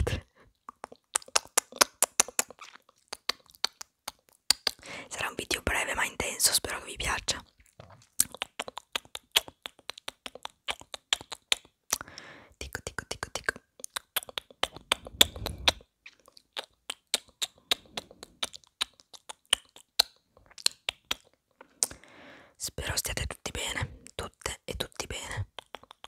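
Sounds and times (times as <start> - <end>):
tongue clicks: 0.0 - 4.8, 8.1 - 22.0, 23.0 - 26.0
soft mouth noise: 0.0 - 26.0.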